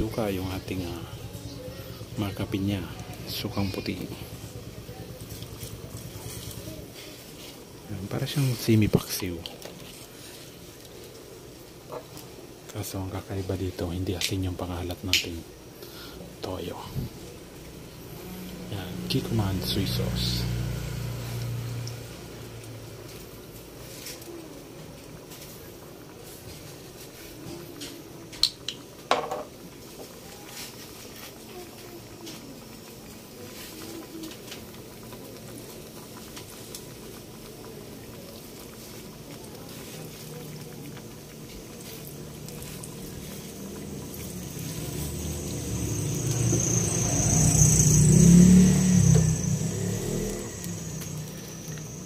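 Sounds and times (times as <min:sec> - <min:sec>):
pot simmering: 0:00.0 - 0:52.0.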